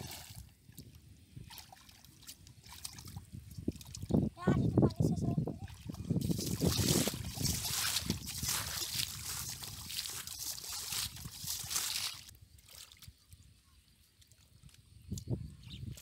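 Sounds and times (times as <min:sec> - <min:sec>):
mud sloshing and squelching: 0:00.0 - 0:15.2.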